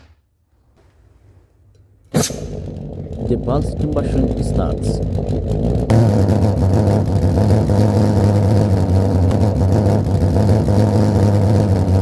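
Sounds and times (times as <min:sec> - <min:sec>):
pulse-jet buzzing drone: 0:02.2 - 0:12.0.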